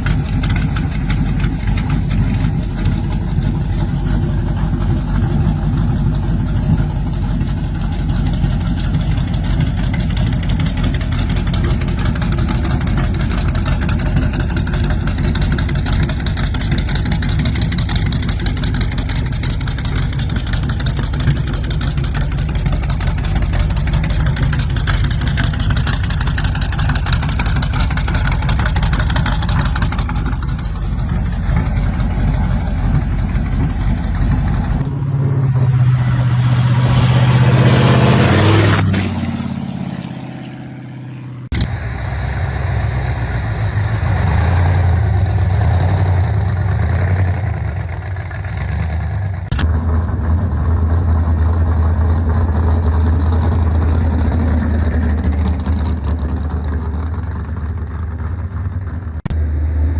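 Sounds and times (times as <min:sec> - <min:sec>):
engine revving: 0:00.0 - 0:59.9
loud car engines running: 0:00.0 - 0:59.9.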